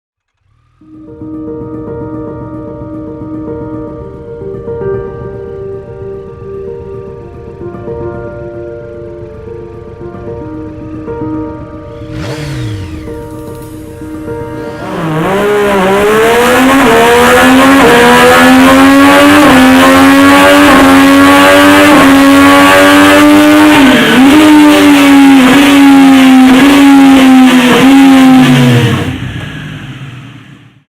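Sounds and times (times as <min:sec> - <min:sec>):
motorcycle engine accelerating: 0:00.2 - 0:03.9, 0:05.0 - 0:30.9.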